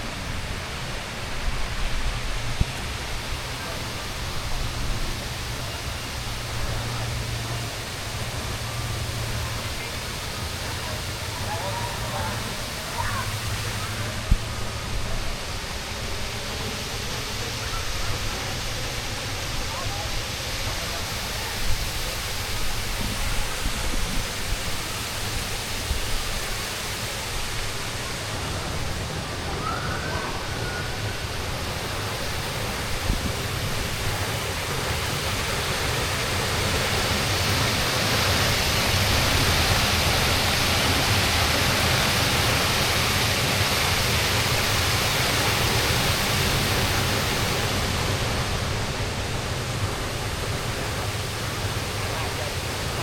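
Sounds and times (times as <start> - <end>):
water rushing: 0.0 - 53.0.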